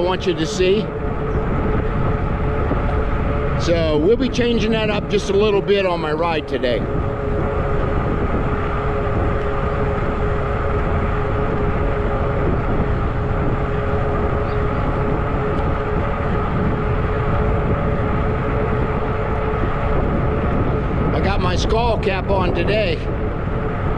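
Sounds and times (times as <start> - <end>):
e-bike motor whine: 0.0 - 23.9
wind rushing over microphone: 0.0 - 23.9.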